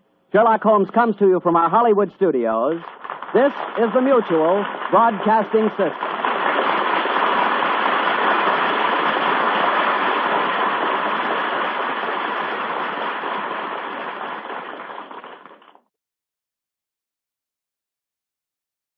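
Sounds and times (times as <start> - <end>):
old radio recording hiss: 0.0 - 15.6.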